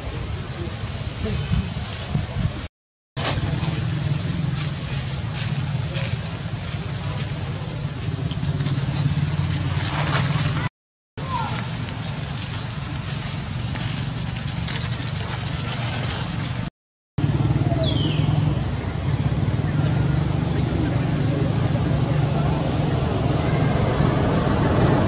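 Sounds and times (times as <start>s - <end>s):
outdoor background rumble: 3.2s - 25.0s.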